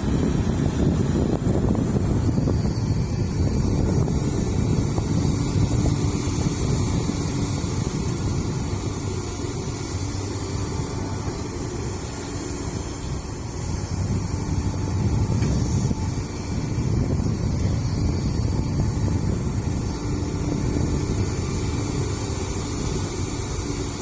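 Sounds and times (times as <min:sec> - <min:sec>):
heavy diesel engines rumbling: 0:00.0 - 0:24.0.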